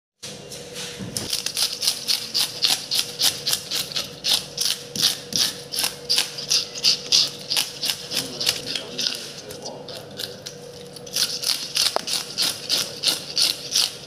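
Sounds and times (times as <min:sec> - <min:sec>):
fish scaler rasping on scales: 0:01.3 - 0:14.0.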